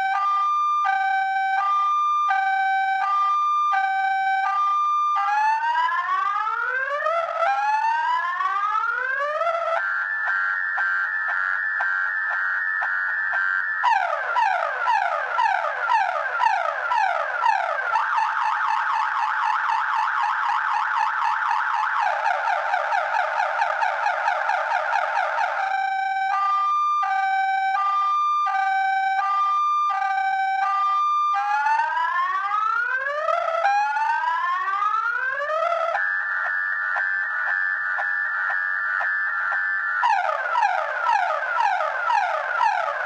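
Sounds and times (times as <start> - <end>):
car alarm siren: 0.0 - 43.0.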